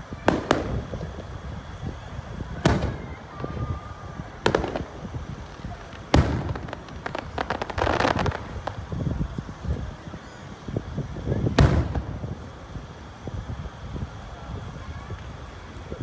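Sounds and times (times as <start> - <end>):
firework crackling: 0.0 - 16.0
firework shells bursting with bangs: 0.1 - 13.5.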